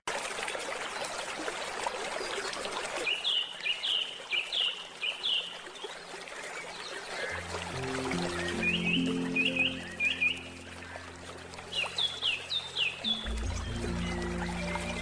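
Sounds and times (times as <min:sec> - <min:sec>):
stream flowing and trickling: 0:00.1 - 0:15.0.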